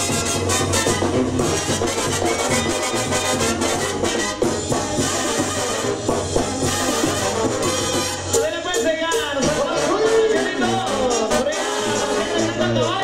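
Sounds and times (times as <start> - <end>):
brass band music with drums: 0.0 - 13.0.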